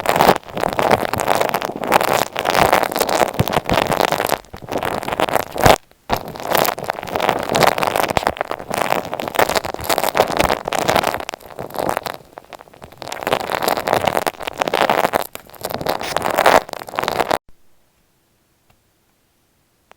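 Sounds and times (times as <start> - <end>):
crackling rubbing on microphone: 0.0 - 17.4.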